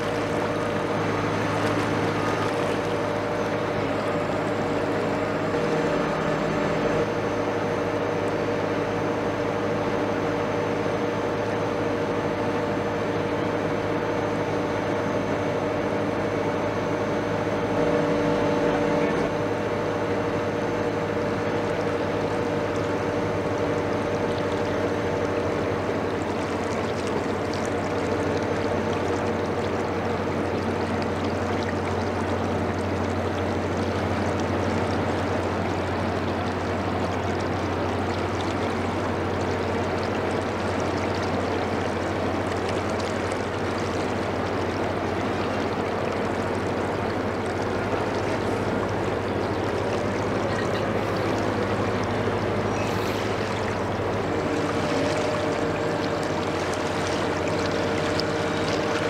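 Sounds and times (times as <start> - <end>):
high steady whine: 0.0 - 59.0
low mechanical hum: 0.0 - 59.0.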